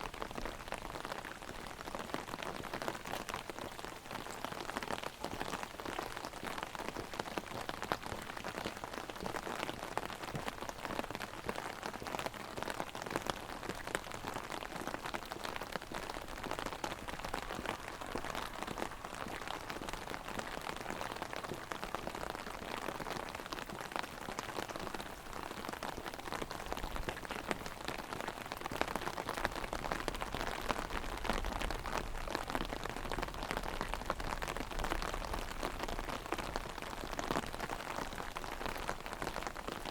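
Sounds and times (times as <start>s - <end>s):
heavy rain drumming on umbrella: 0.0s - 39.9s.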